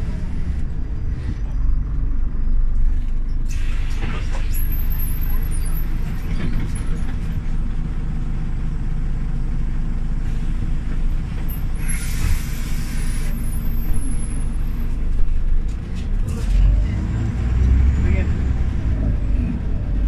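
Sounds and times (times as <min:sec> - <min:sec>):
bus engine droning: 0:00.0 - 0:20.0.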